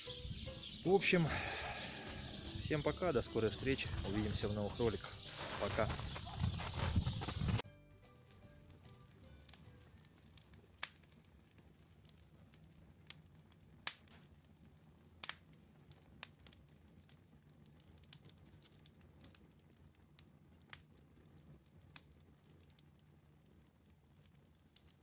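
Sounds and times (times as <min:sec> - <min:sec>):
campfire crackling pops: 0:00.0 - 0:07.6, 0:08.2 - 0:25.0.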